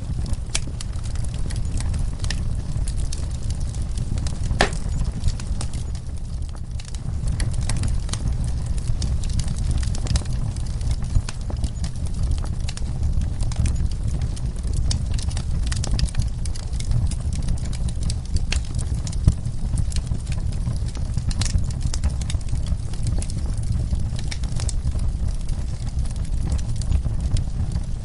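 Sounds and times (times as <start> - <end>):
low fire rumble: 0.0 - 28.0
wood fire crackling and popping: 0.0 - 28.0.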